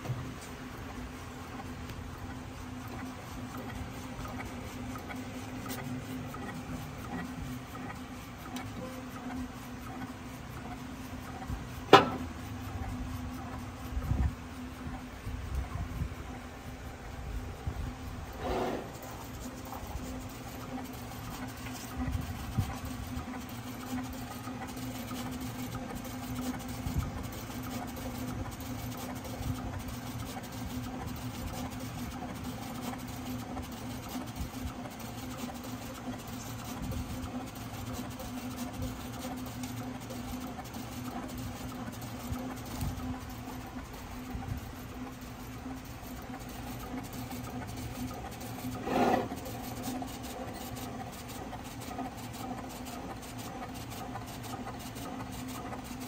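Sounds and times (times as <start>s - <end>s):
cutting plotter motors humming: 0.0s - 56.0s.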